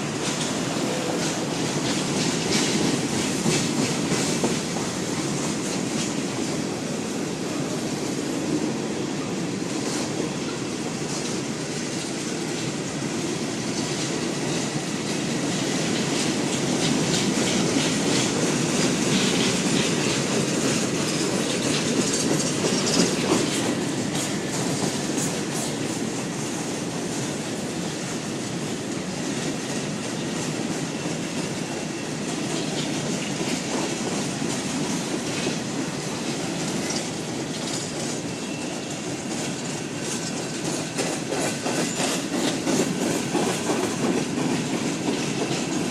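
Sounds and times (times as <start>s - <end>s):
train wheels clacking over rails: 0.0s - 45.9s.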